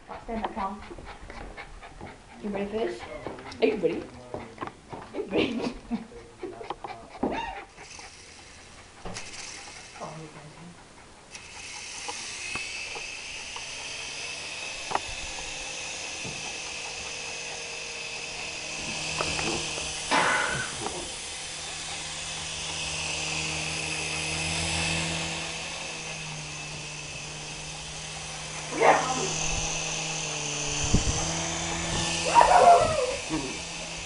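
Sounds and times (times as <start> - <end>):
toy helicopter rotor whirring: 0.2 - 34.0.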